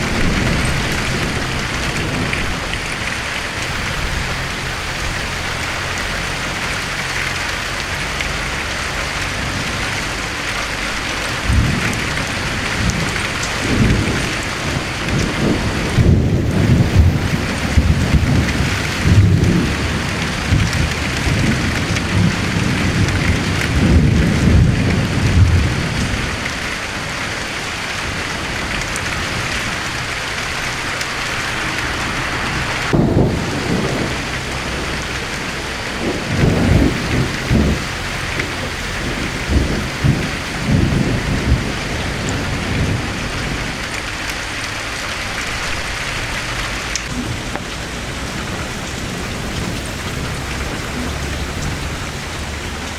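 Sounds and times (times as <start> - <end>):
steady rain falling: 0.0 - 52.9
thunder rumbling: 0.0 - 52.9.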